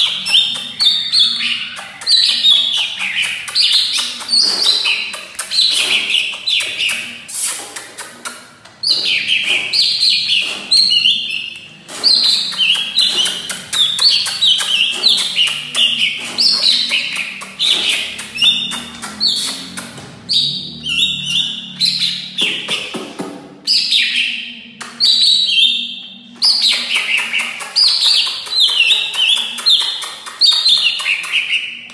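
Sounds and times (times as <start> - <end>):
bird singing high chirps: 0.0 - 7.1, 8.8 - 23.0, 23.6 - 31.8.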